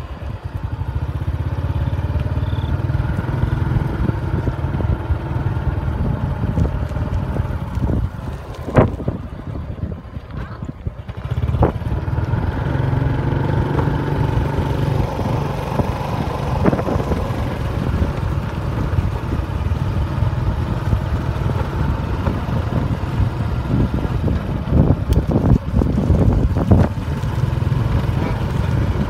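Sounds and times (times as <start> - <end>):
wind rumbling on microphone: 2.8 - 29.0.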